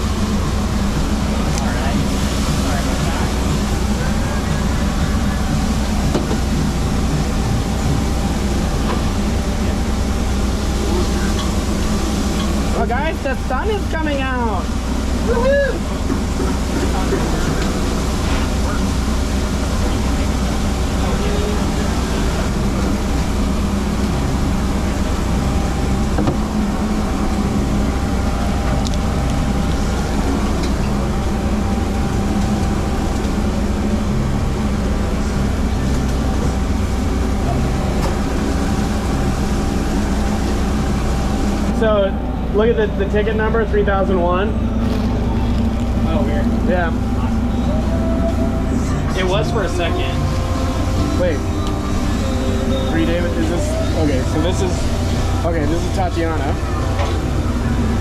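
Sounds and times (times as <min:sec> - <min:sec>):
low mechanical drone: 0:00.0 - 0:58.0.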